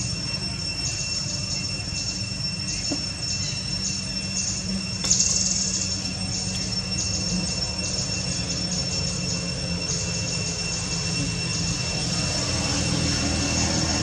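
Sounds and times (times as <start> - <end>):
high-pitched ringing: 0.0 - 14.0
low hum: 0.0 - 14.0
pulsing high hiss: 0.0 - 14.0.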